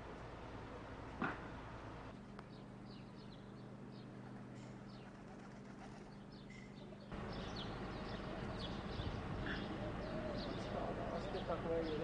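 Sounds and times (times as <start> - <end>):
birds chirping: 2.4 - 12.0.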